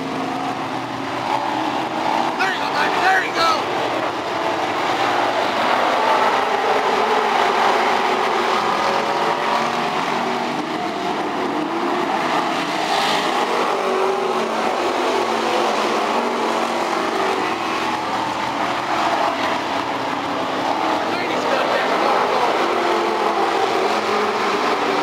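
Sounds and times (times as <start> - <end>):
race car engines: 0.0 - 25.0.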